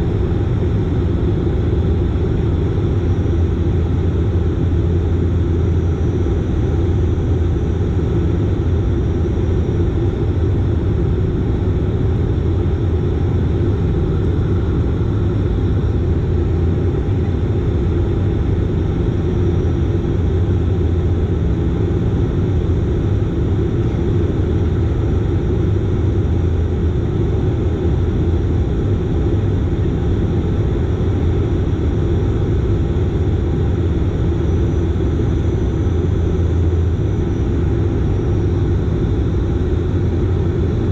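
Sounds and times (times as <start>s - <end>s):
turboprop engines droning: 0.0s - 40.9s.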